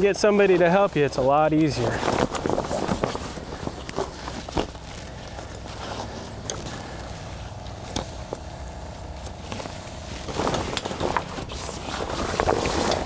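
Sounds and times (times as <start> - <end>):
steady low hum: 0.0 - 13.0
tarp rustling and crinkling: 0.0 - 13.0.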